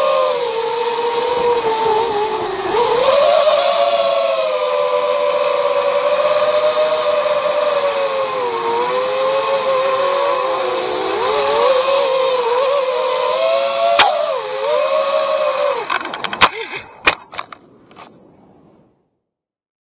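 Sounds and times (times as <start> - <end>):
drone motors whining: 0.0 - 18.1.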